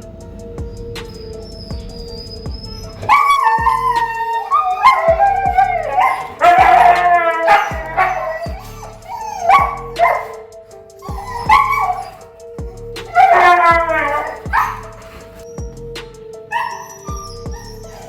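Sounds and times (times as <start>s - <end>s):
background music with steady beat: 0.0s - 18.0s
huskies howling and barking: 0.1s - 15.7s, 16.5s - 18.0s.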